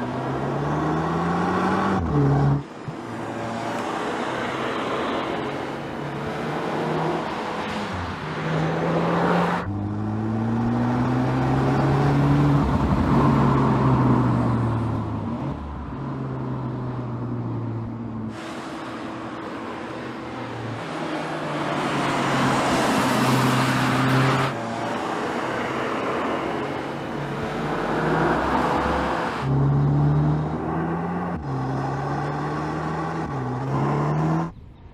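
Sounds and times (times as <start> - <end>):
car engine accelerating: 0.0 - 5.2, 6.1 - 34.6.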